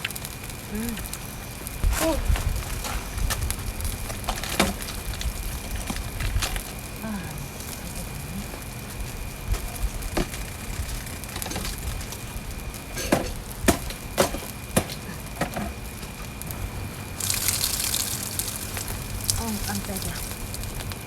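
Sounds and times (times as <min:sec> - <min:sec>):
food sizzling on a grill: 0:00.0 - 0:21.0.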